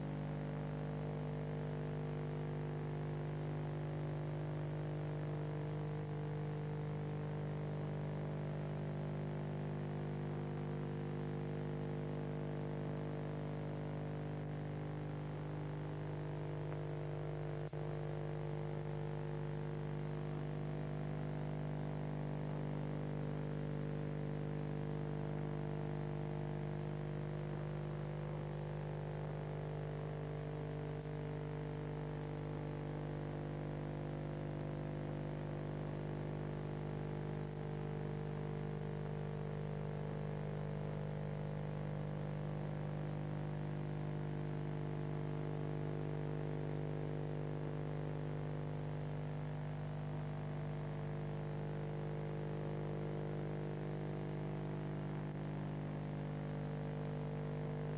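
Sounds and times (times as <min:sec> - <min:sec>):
electrical mains hum: 0:00.0 - 0:57.9.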